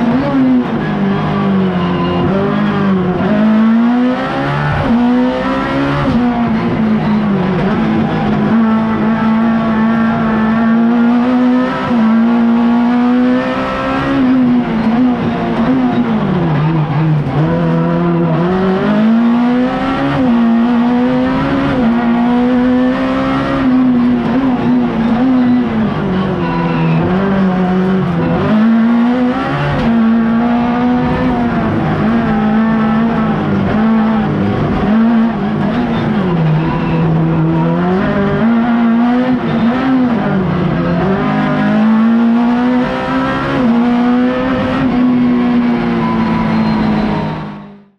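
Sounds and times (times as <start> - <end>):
race car engine at high revs: 0.0 - 47.9.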